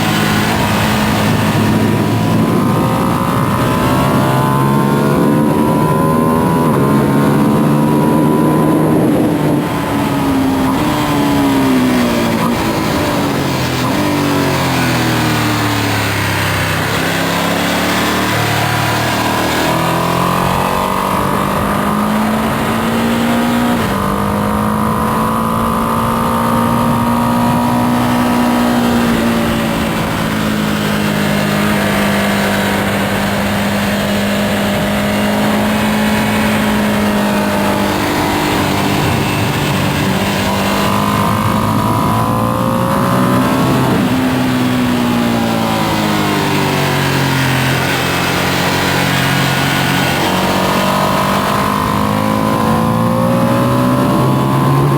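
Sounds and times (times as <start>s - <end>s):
motorcycle engine revving: 0.0s - 54.9s
steady rushing noise: 0.0s - 54.9s.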